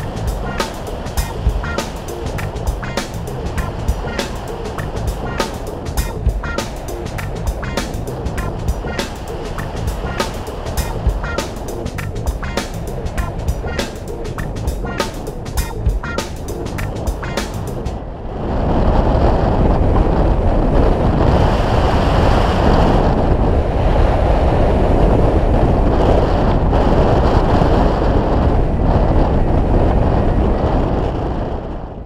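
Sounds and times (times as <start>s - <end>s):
wind rushing on microphone: 0.0s - 32.0s.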